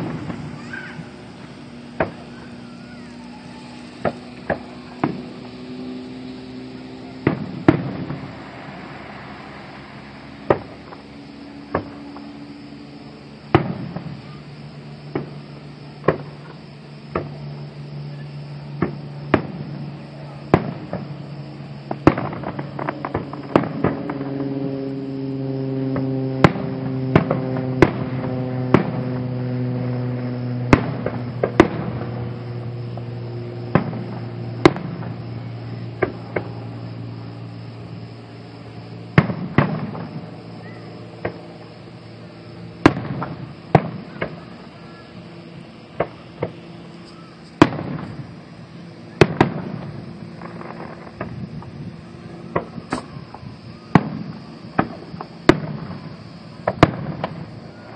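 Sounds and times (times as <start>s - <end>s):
fireworks bursting: 0.0s - 57.9s.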